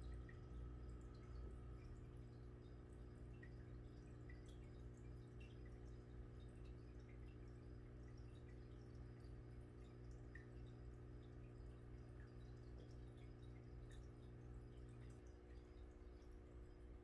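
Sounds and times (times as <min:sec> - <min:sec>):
aquarium bubbling: 0:00.0 - 0:17.0
steady low hum: 0:00.0 - 0:17.0.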